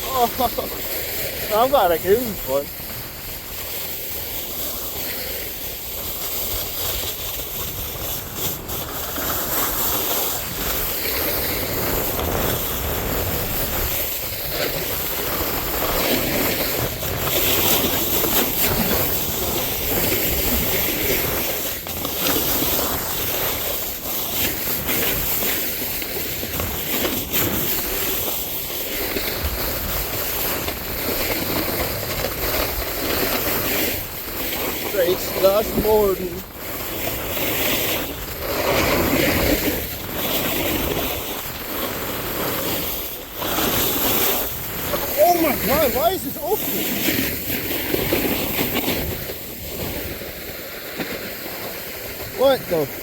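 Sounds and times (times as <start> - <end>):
snowboard scraping over slush: 0.0 - 53.0.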